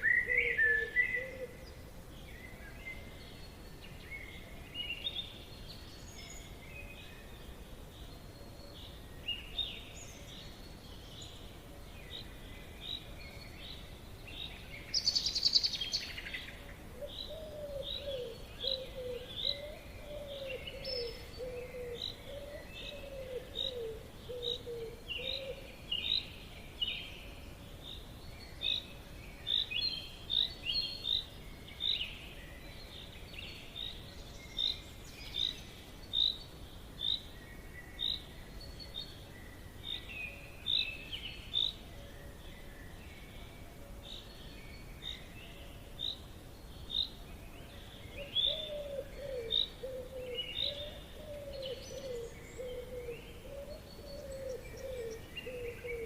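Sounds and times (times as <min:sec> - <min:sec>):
birds chirping: 0:00.0 - 0:56.0
faint background hiss: 0:00.0 - 0:56.0.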